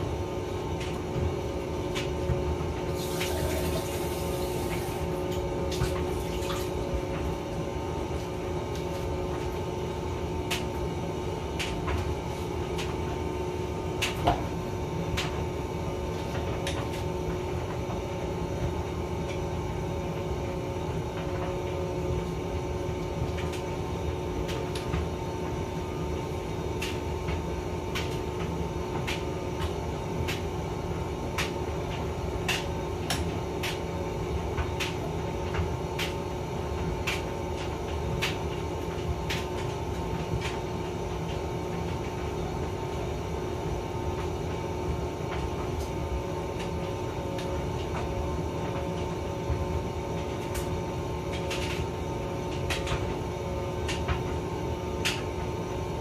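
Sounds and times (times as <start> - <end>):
tumble dryer motor hum: 0.0 - 56.0.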